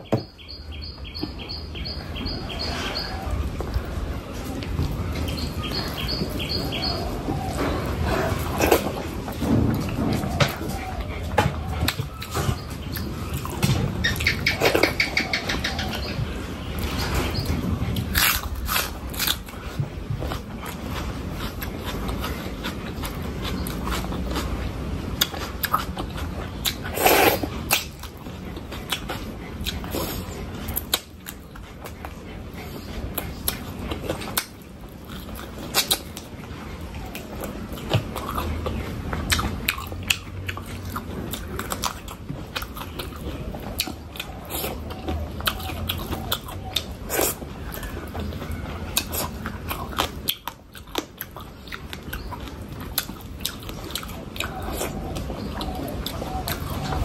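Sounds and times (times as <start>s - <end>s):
chewing and biting food: 3.5s - 57.0s.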